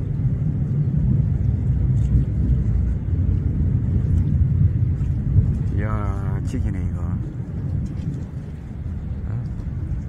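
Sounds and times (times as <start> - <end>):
loud low rumble: 0.0 - 10.0.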